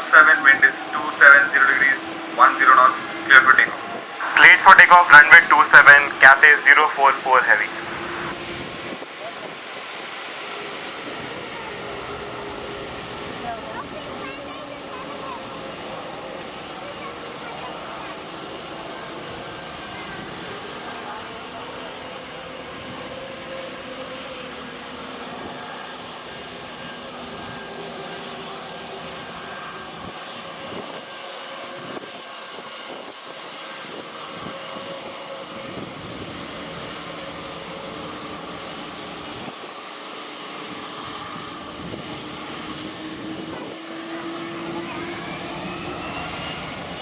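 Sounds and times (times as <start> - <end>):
jet engines at takeoff power: 0.0 - 47.0.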